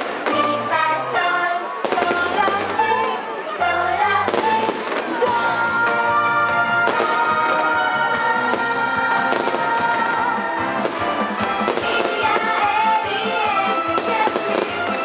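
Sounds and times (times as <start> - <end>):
fireworks bursting: 0.0 - 15.0
music with long held notes: 0.0 - 15.0.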